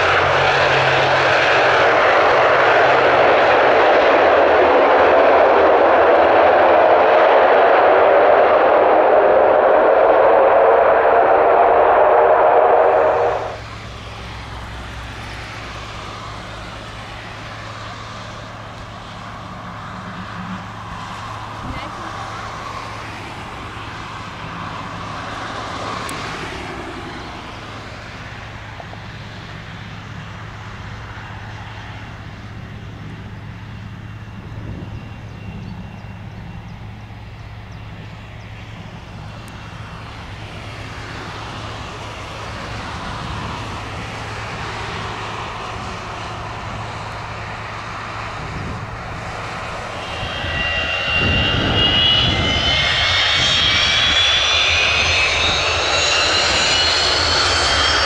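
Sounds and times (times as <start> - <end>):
faint high whine: 0.0 - 58.0
jet engines rumbling and humming: 0.0 - 58.0.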